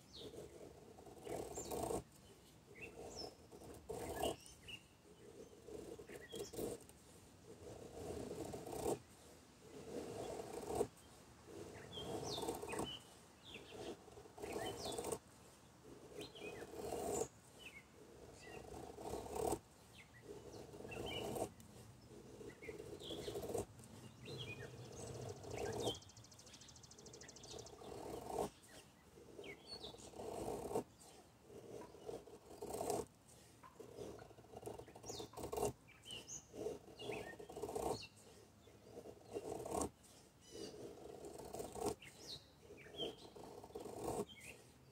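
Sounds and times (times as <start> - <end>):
knife scraping wood: 0.1 - 26.0, 27.4 - 44.7.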